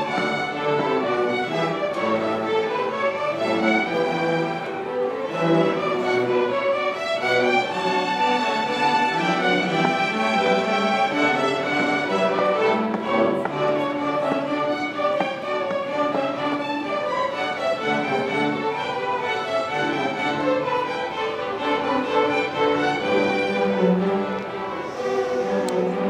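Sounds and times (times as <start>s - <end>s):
string orchestra playing: 0.0s - 26.0s.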